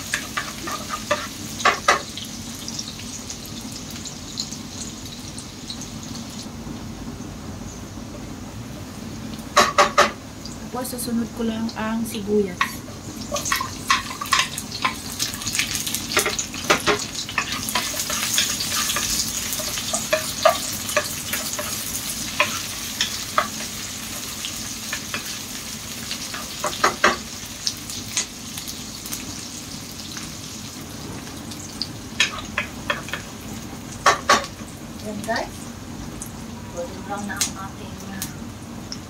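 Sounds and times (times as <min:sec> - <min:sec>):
onion sizzling in hot oil: 0:00.0 - 0:39.0.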